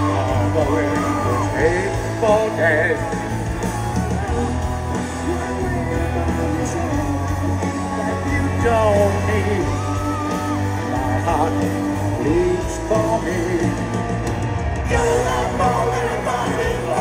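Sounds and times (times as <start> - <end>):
man singing: 0.0 - 14.0, 14.8 - 17.0
live rock band: 0.0 - 17.0.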